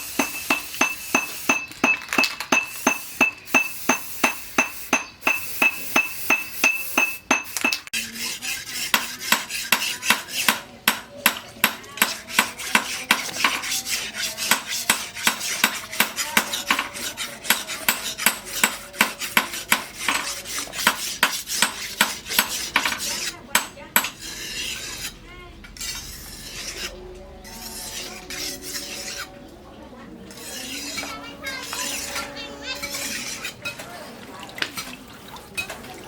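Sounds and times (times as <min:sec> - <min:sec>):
scraping on steel knife blade: 0:00.0 - 0:29.4, 0:30.3 - 0:33.8.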